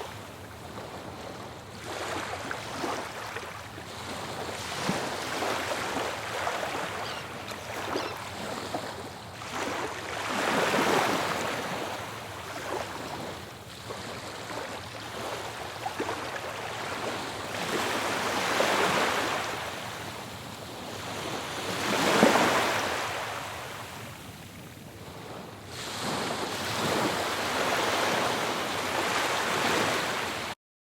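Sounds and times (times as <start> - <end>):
ocean waves breaking on shore: 0.0 - 30.6.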